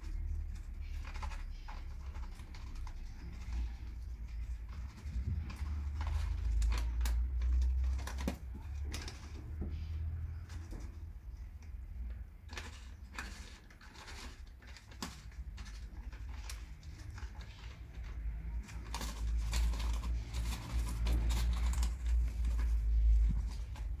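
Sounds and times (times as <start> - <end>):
kitten claws scratching concrete: 0.0 - 24.0.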